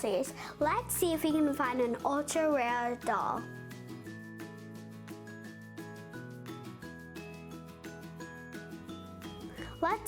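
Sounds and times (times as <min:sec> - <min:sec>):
background music with light beat: 0:00.0 - 0:10.0.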